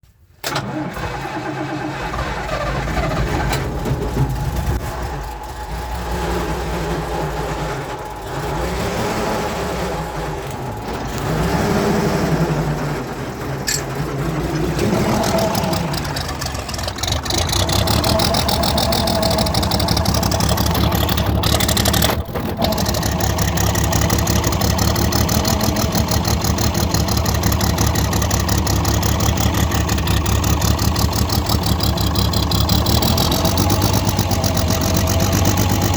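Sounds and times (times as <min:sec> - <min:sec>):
tractor diesel engine revving: 0:00.4 - 0:35.9.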